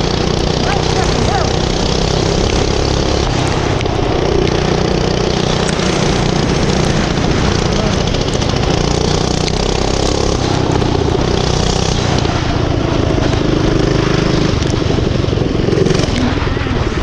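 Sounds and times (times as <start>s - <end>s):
motorbike engine running: 0.0s - 17.0s.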